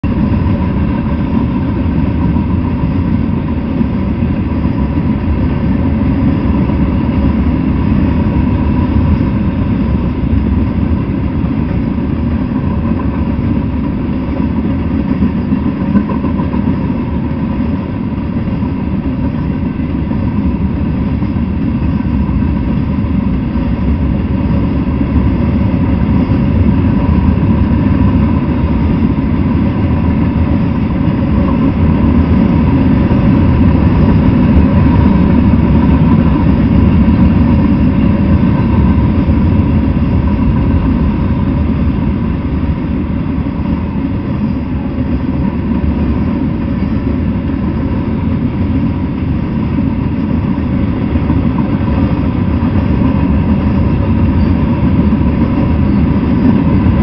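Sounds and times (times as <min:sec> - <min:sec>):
faint steady whine: 0:00.0 - 0:57.0
train wheels rumbling on rails: 0:00.0 - 0:57.0.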